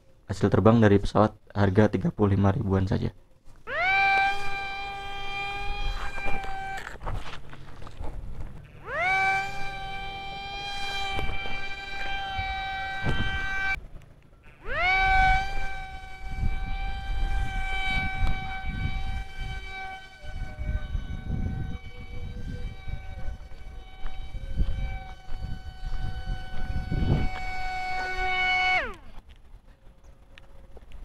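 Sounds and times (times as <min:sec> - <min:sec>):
electric motor and propeller whine: 0:03.4 - 0:31.0.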